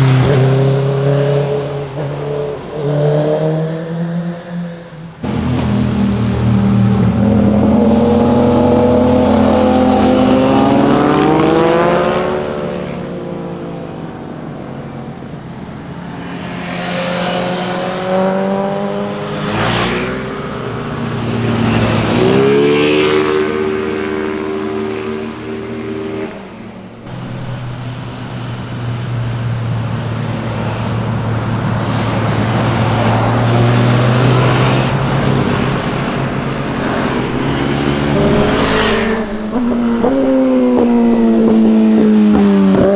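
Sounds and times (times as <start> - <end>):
motorcycle engines accelerating: 0.0 - 42.9.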